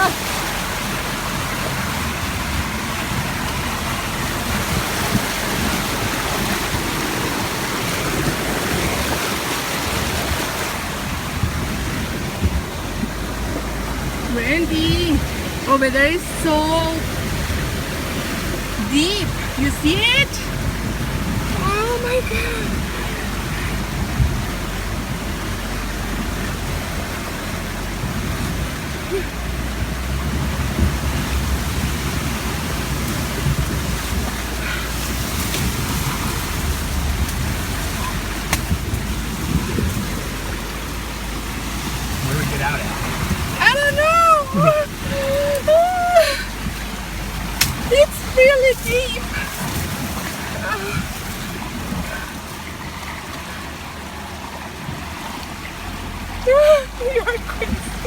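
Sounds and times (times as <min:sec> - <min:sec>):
low engine running: 0:00.0 - 0:58.0
river water rushing and splashing: 0:00.0 - 0:58.0.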